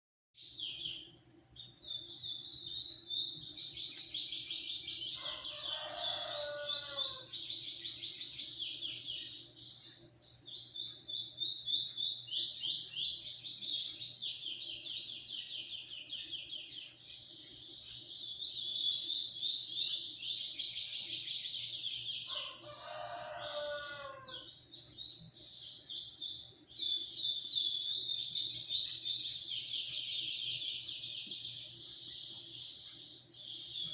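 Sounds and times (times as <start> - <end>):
songbird twittering song: 0.4 - 33.9.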